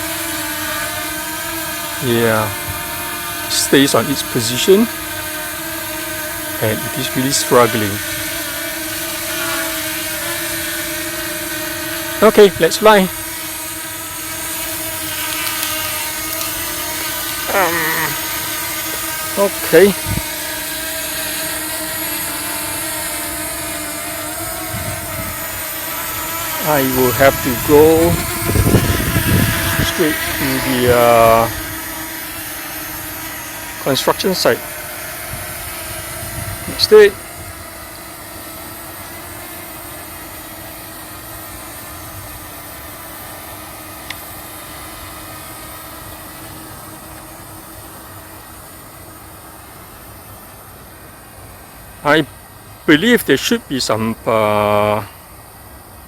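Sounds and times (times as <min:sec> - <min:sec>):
drone propellers humming: 0:00.0 - 0:52.2.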